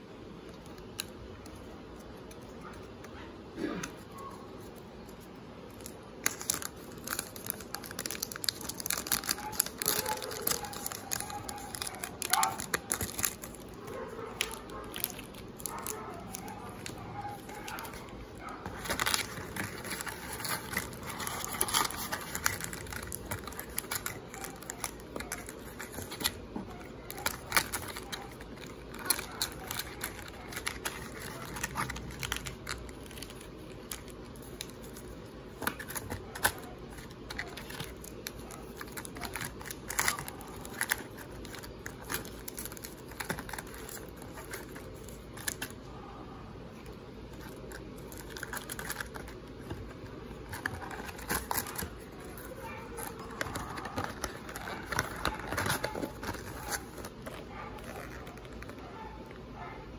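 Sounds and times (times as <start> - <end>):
wrappers crinkling: 4.2 - 45.9, 46.8 - 59.6.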